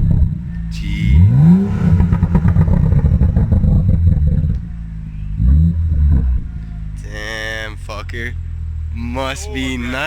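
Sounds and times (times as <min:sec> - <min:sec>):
exhaust crackling and popping: 0:00.0 - 0:08.9
car engine revving: 0:00.0 - 0:09.1.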